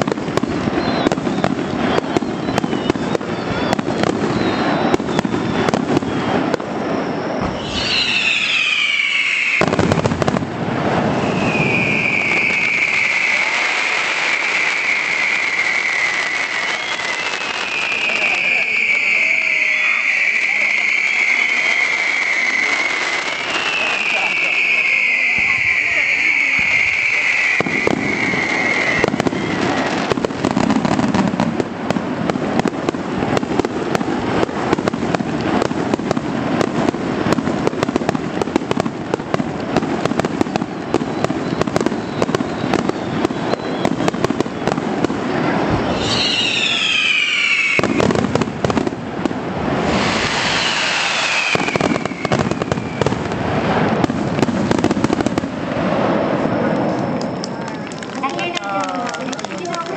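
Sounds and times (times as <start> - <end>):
falling firework whistles: 0.0 - 57.7
fireworks booming and crackling: 0.0 - 59.9.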